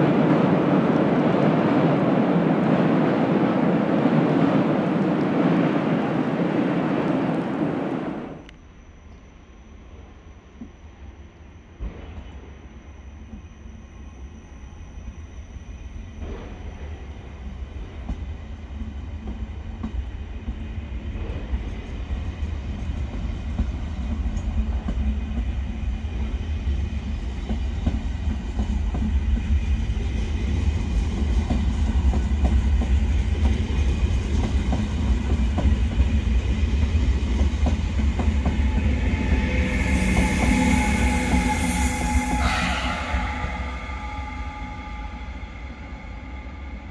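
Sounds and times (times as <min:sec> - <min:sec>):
train rumbling past: 0:00.0 - 0:08.5, 0:15.0 - 0:46.9
locomotive whine and hiss: 0:00.0 - 0:46.9.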